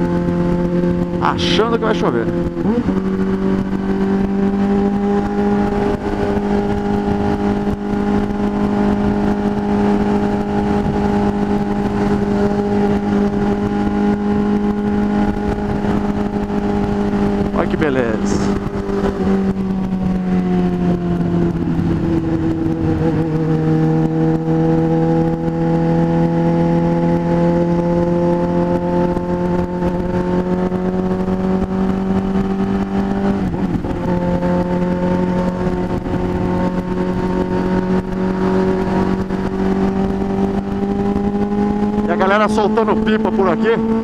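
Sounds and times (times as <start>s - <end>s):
wind rush: 0.0s - 42.2s
motorcycle engine cruising: 0.0s - 44.0s.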